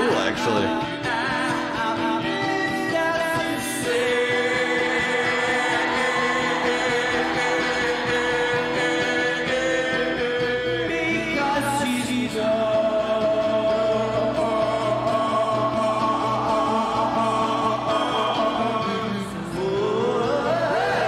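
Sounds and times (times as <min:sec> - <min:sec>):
men singing: 0:00.0 - 0:21.0
strummed acoustic guitar: 0:00.0 - 0:21.0.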